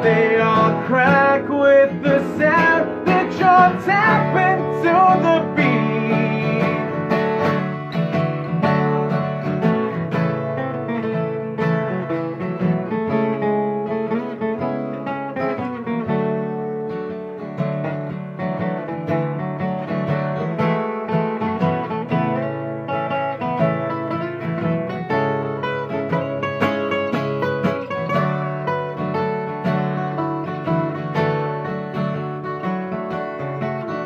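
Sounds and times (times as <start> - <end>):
strummed acoustic guitar: 0.0 - 34.0.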